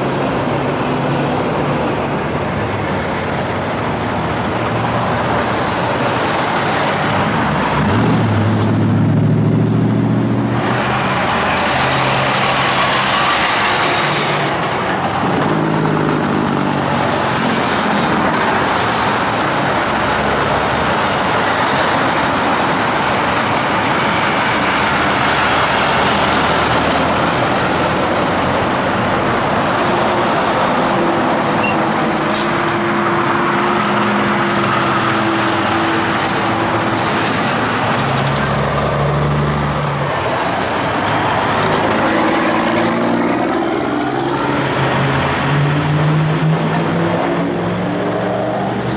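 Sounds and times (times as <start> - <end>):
diesel truck engines droning: 0.0 - 48.9
tyre noise of passing traffic: 0.0 - 48.9.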